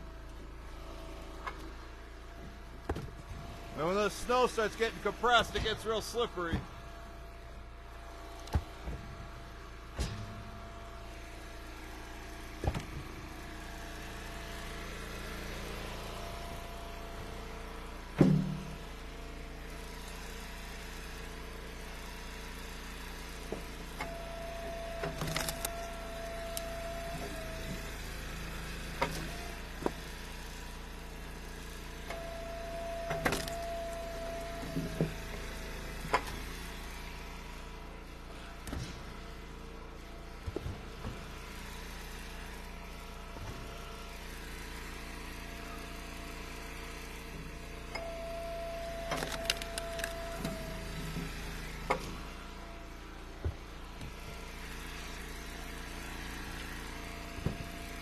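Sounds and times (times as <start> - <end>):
wood splitter engine running: 0.0 - 58.0.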